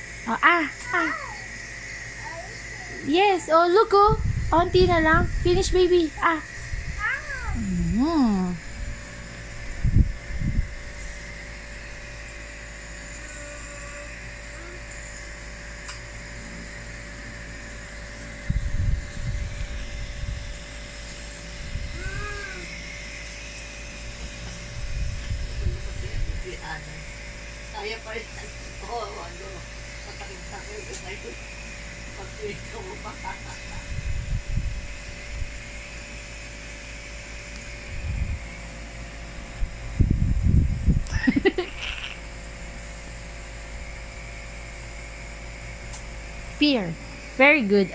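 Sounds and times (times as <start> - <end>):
nebulizer compressor humming: 0.0 - 47.9.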